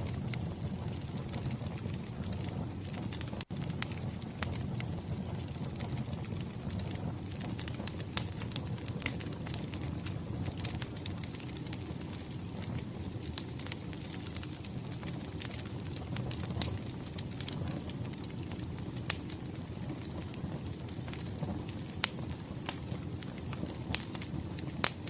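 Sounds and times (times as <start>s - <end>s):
rush of flames: 0.0s - 25.0s
sharp pops of fire: 0.0s - 25.0s
wood fire crackling: 0.0s - 25.0s.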